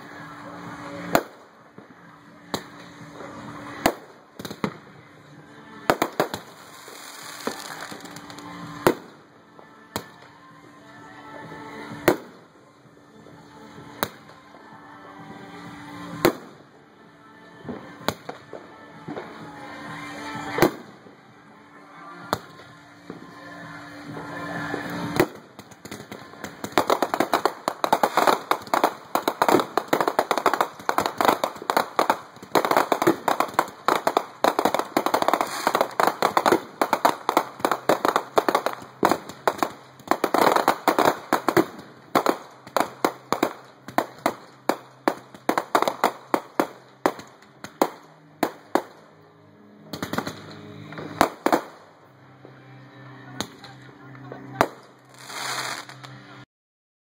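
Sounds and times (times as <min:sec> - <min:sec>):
fireworks bangs and crackles: 0:00.0 - 0:16.8, 0:17.5 - 0:21.5, 0:22.1 - 0:49.2, 0:49.9 - 0:51.8, 0:53.4 - 0:56.2.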